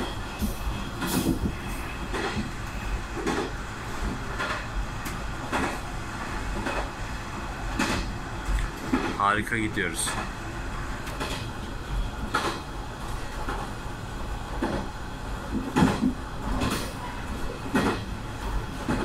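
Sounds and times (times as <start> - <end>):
railcar rumbling: 0.0 - 19.0.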